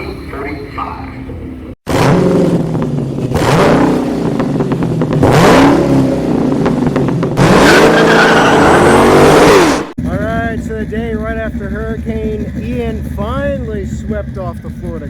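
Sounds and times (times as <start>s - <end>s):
car engine accelerating hard: 1.9s - 15.0s.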